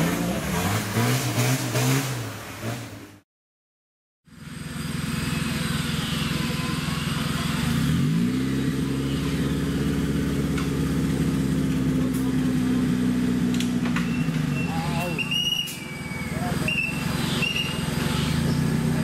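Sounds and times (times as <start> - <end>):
off-road vehicle engine revving: 0.0 - 3.2, 4.4 - 19.0.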